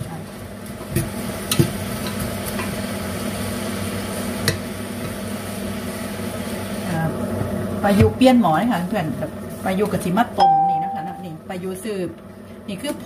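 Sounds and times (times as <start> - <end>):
onions sizzling in oil: 0.0 - 11.6.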